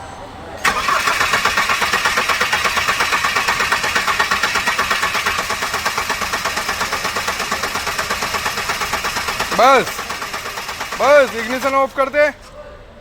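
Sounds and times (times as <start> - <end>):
diesel engine cranking: 0.6 - 12.6.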